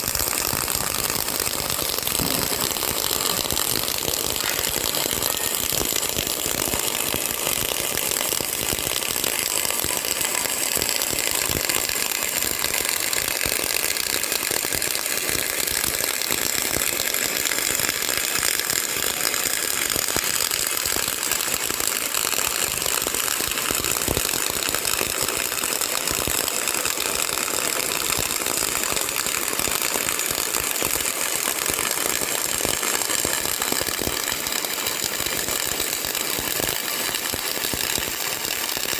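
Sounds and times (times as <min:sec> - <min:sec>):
welding arc crackling: 0:00.0 - 0:38.9.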